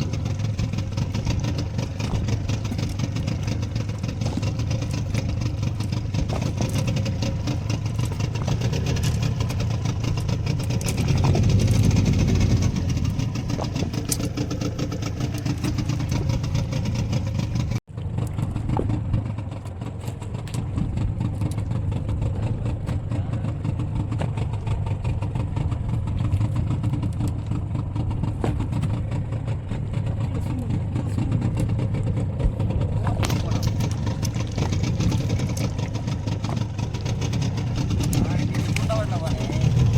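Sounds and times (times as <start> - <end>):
boat engine running at low revs: 0.0 - 39.9.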